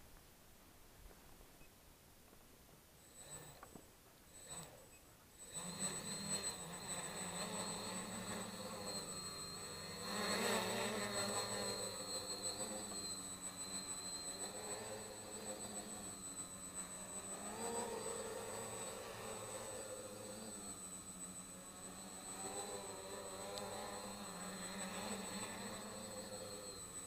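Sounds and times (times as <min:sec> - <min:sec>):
quadcopter motors buzzing: 0:03.0 - 0:27.0.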